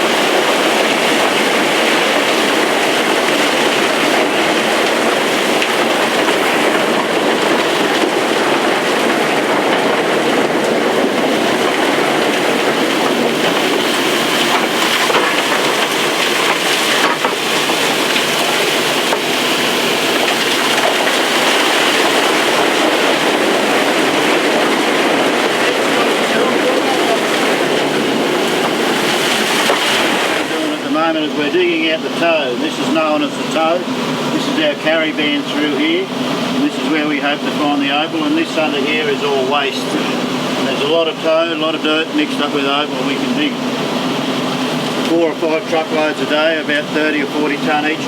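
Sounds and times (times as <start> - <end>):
mining machinery running: 0.0 - 48.0.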